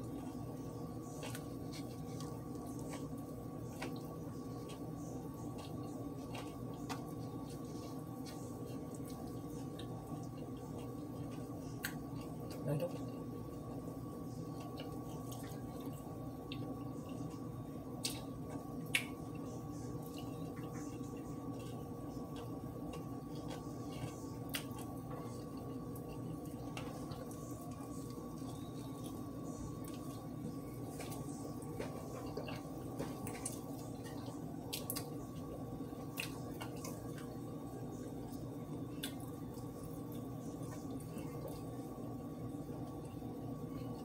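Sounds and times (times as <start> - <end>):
steady background hum: 0.0 - 44.0
person chewing: 1.0 - 13.6, 14.4 - 41.9.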